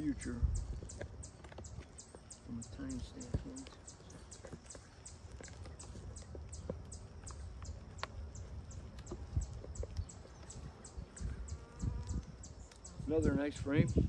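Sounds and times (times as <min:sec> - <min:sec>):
small bird chirping rapidly: 0:00.0 - 0:14.0.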